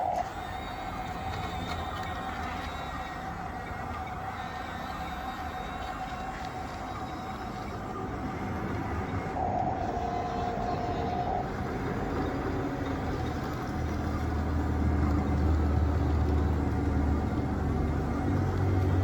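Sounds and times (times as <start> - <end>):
deeper hum: 0.0 - 19.0
toy machines mechanical drone: 0.0 - 19.0.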